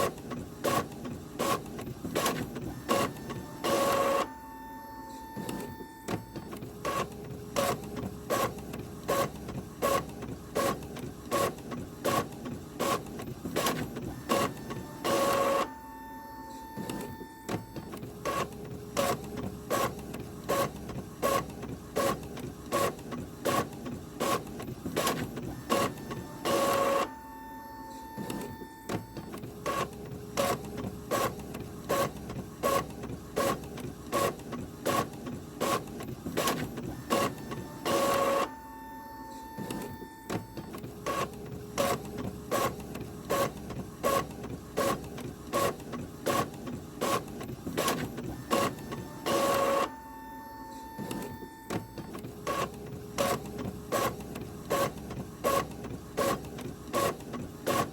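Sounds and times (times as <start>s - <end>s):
printer hum: 0.0s - 57.9s
printer whir: 0.0s - 57.9s
printer mechanical clicking: 5.1s - 15.8s, 16.4s - 57.9s.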